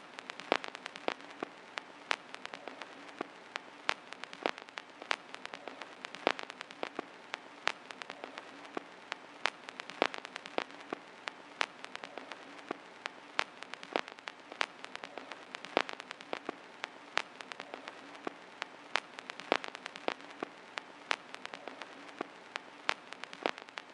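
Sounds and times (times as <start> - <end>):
vinyl crackles and pops: 0.0 - 23.9
vinyl record hiss: 0.0 - 23.9.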